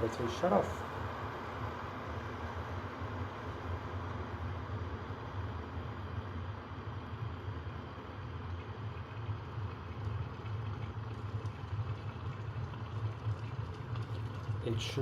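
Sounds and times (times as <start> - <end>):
electric kettle heating water: 0.0 - 15.0.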